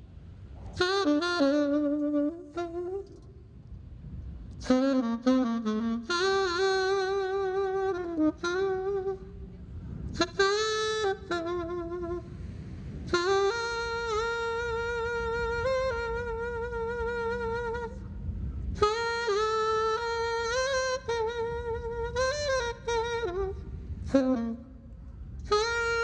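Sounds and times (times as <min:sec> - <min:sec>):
saxophone playing slow melody: 0:00.2 - 0:26.0.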